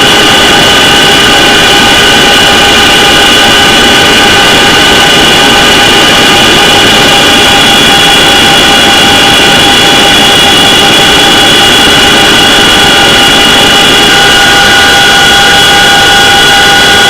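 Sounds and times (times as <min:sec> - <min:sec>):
helicopter rotor rush: 0:00.0 - 0:17.0.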